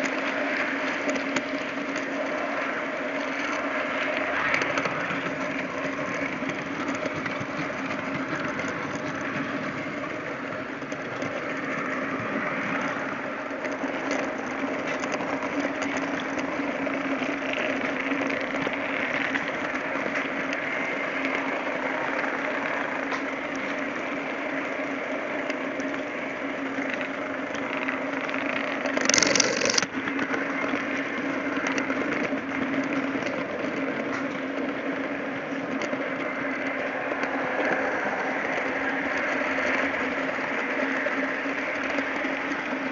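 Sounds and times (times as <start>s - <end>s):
model train motor hum: 0.0s - 42.9s
wheels rattling on track: 0.0s - 42.9s.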